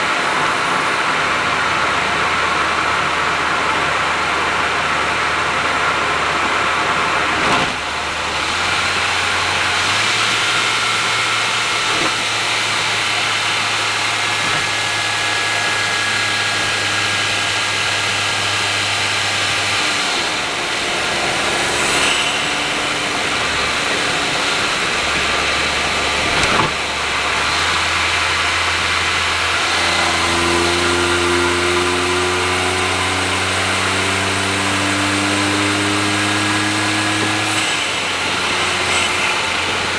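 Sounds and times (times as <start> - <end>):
car engine cruising: 0.0 - 39.9
tyre and road noise: 0.0 - 39.9.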